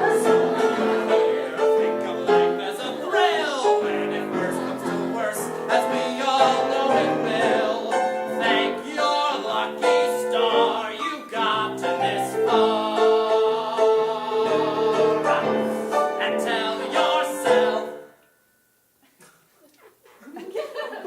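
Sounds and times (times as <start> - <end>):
man singing: 0.0 - 18.1
piano accompaniment: 0.0 - 18.4.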